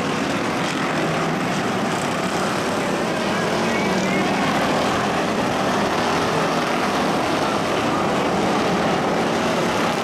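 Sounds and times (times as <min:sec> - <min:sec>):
race car engines roaring: 0:00.0 - 0:10.0.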